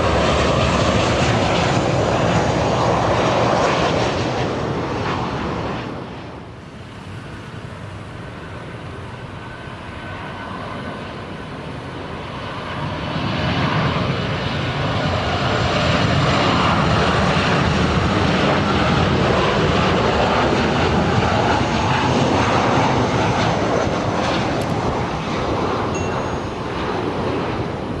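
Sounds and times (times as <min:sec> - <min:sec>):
faint turbine whine: 0:00.0 - 0:28.0
jet engines running: 0:00.0 - 0:28.0.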